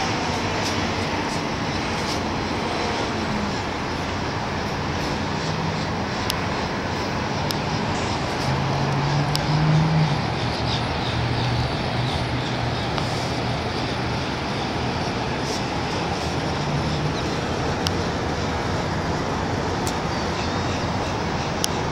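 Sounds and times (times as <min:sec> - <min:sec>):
hiss of city traffic: 0:00.0 - 0:21.9.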